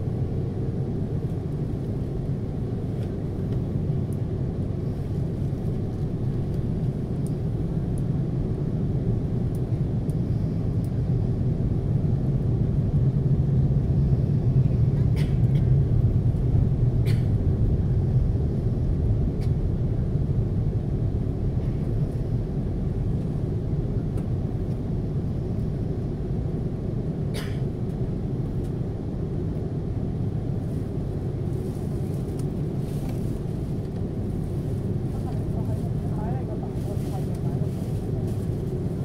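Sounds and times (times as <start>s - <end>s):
jet engines and rolling gear rumble: 0.0s - 39.0s.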